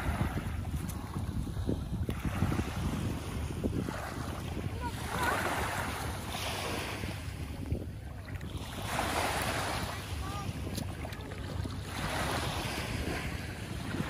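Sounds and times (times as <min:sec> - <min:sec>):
small waves washing on sand: 0:00.0 - 0:14.0
wind buffeting microphone: 0:00.0 - 0:14.0.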